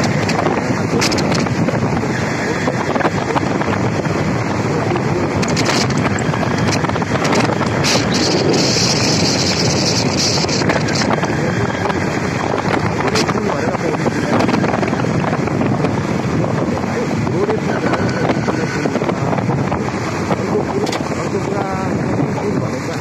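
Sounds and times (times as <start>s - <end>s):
motorcycle running: 0.0s - 23.0s
wind buffeting microphone: 0.0s - 23.0s.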